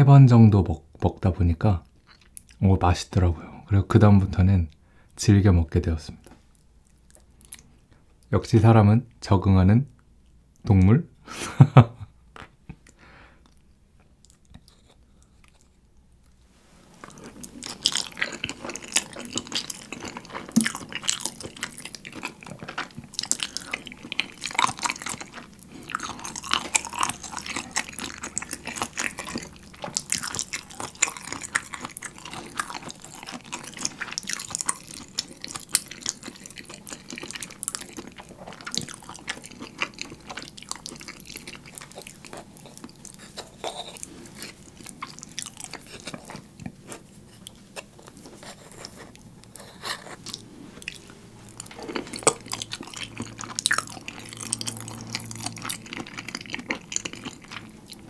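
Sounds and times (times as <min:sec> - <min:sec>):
chewing with wet mouth clicks: 0:01.9 - 0:02.6, 0:06.6 - 0:08.3, 0:12.8 - 0:16.4, 0:17.0 - 0:58.0.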